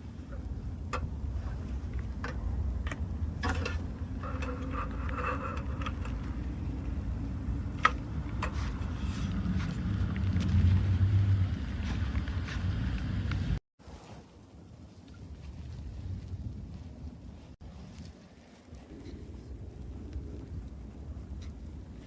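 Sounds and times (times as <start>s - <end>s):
wind buffeting microphone: 0.0s - 13.6s, 14.4s - 22.0s.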